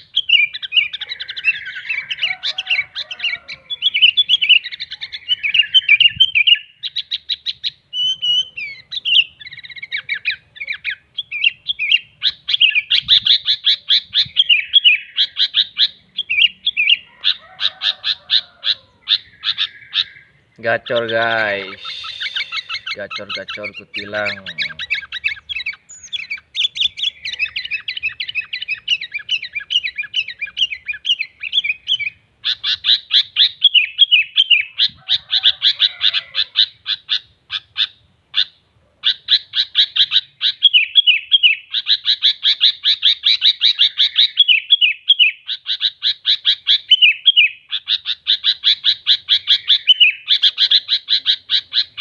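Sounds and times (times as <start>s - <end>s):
bird chattering song: 0.0s - 52.0s.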